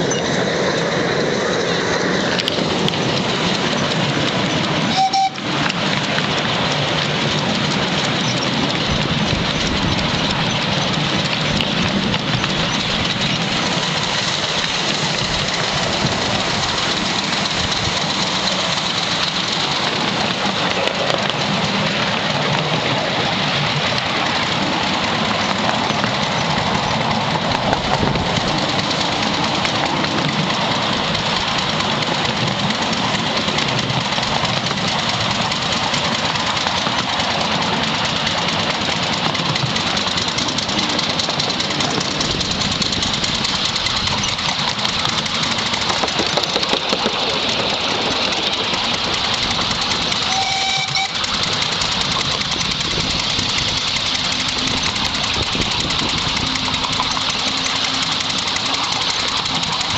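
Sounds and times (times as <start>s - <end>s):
steam locomotive exhaust hissing: 0.0s - 59.9s
train running on track: 0.0s - 59.9s.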